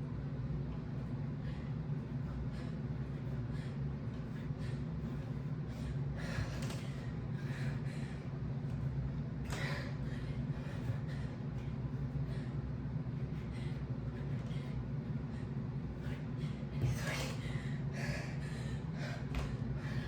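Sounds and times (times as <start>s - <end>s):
steady low hum: 0.0s - 20.0s
woman breathing hard: 1.0s - 20.0s.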